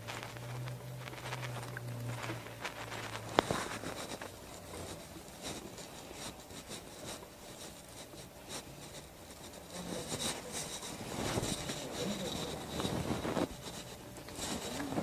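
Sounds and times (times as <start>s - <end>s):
fabric rustling and rubbing: 0.0s - 15.0s
soft scrapes: 0.0s - 15.0s.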